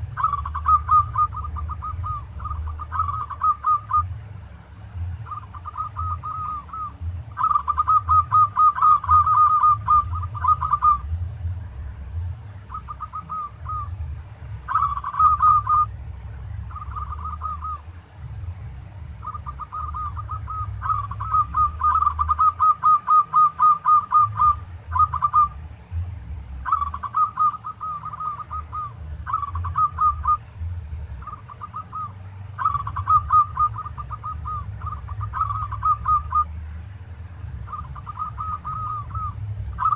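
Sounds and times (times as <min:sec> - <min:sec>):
dove cooing: 0:00.0 - 0:04.4, 0:05.1 - 0:11.4, 0:12.6 - 0:17.9, 0:19.2 - 0:25.6, 0:26.6 - 0:36.7, 0:37.5 - 0:39.9
steady low rumble: 0:00.0 - 0:39.9.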